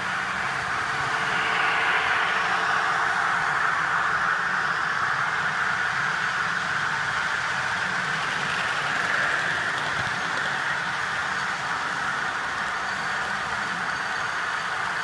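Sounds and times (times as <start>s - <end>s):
diesel locomotive engines: 0.0s - 15.0s
train coaches rolling: 0.0s - 15.0s.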